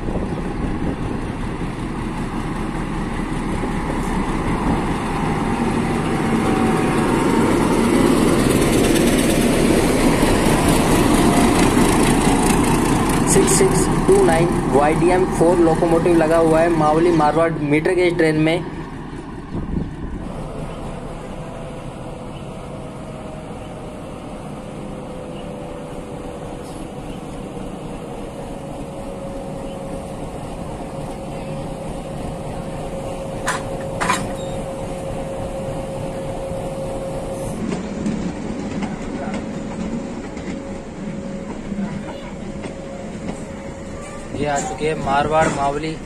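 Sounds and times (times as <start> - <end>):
locomotive engine running: 0.0 - 46.0.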